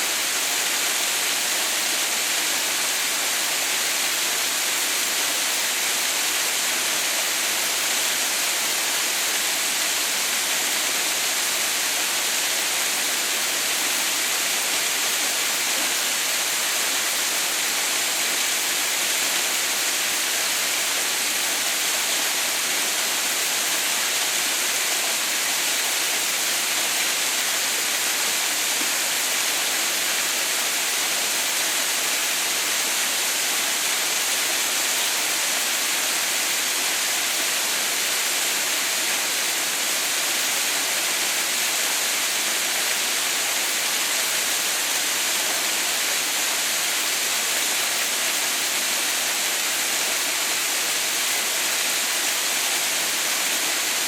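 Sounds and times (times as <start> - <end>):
waterfall hissing: 0.0 - 54.0.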